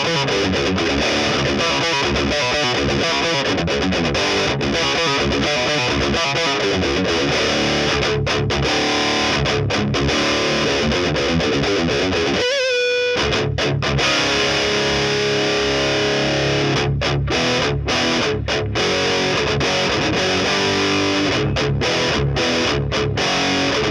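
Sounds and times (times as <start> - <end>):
distorted electric guitar riff: 0.0 - 23.9.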